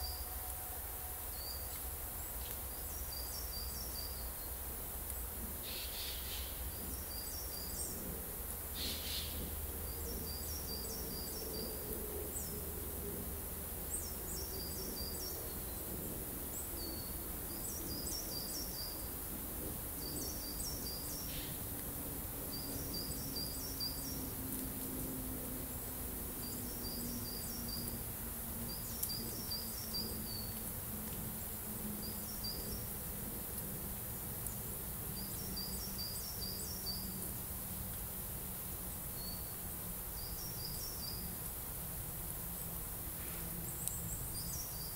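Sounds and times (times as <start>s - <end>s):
songbird singing: 0.0s - 37.7s, 38.4s - 44.9s.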